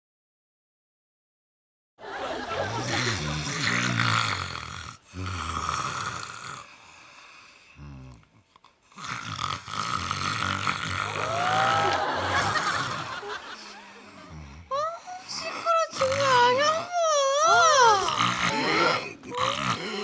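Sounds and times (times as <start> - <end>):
person snoring: 2.5 - 20.0.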